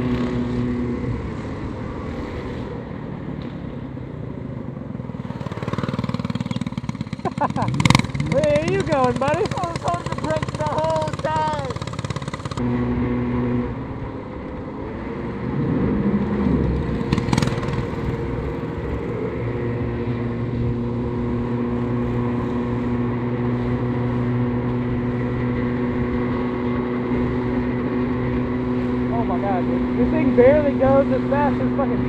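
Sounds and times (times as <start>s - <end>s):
small motorbike engine running: 0.0s - 32.0s.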